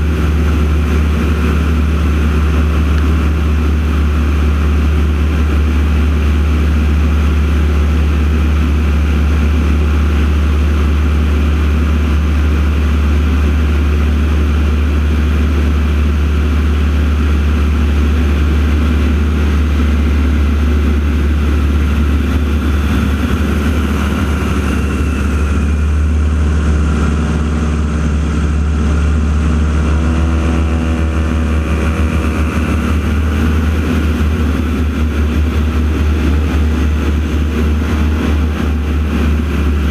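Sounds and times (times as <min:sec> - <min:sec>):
propeller aircraft droning overhead: 0:00.0 - 0:39.9.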